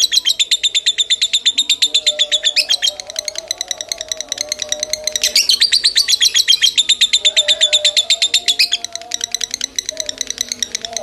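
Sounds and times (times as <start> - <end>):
lovebird chirping: 0.0 - 11.0.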